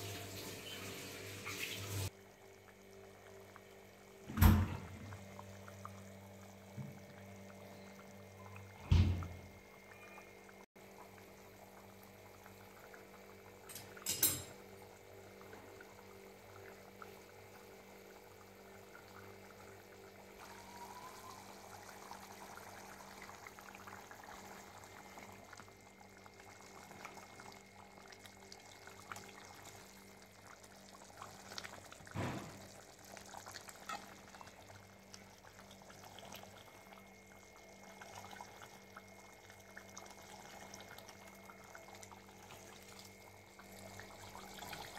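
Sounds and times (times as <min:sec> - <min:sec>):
faint steady hum: 0:00.0 - 0:44.9
curry bubbling in a pot: 0:01.5 - 0:44.9.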